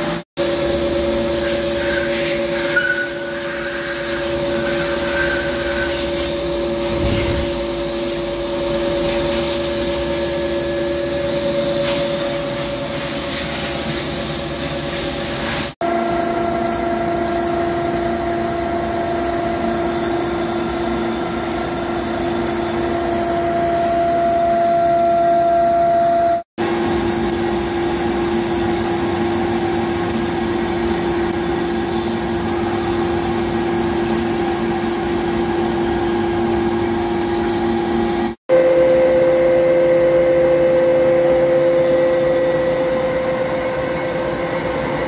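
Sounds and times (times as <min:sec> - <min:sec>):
lathe machine hum: 0:00.0 - 0:13.6, 0:14.6 - 0:45.0
metal cutting noise: 0:00.0 - 0:45.0.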